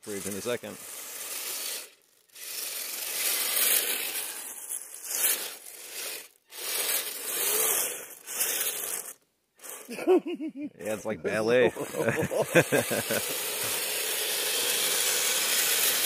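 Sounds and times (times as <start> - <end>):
toy car drivetrain grinding: 0.0 - 10.0, 11.6 - 16.0.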